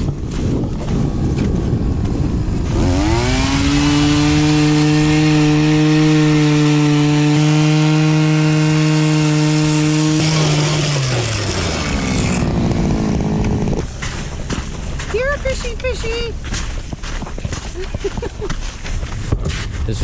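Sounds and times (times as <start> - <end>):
small gasoline engine revving: 0.7 - 19.4.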